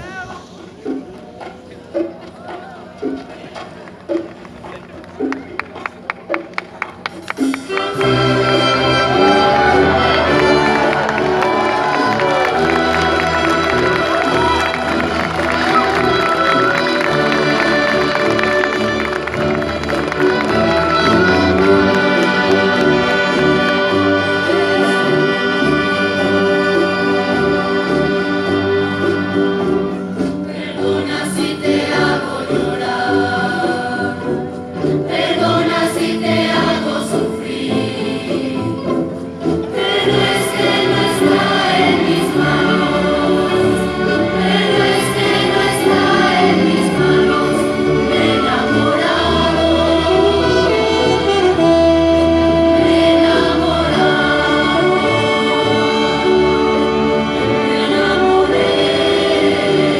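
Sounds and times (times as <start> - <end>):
orchestra playing chords: 7.2 - 59.9
choir singing: 7.4 - 59.9.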